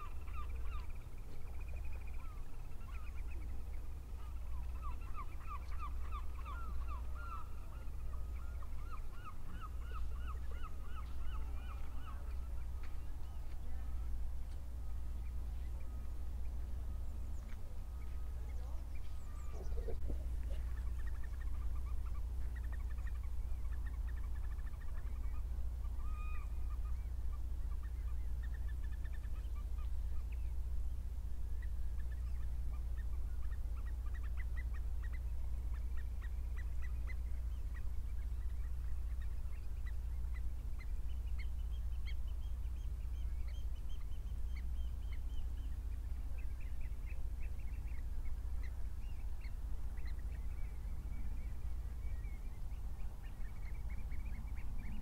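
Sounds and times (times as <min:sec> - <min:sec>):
birds calling and chattering: 0:00.0 - 0:55.0.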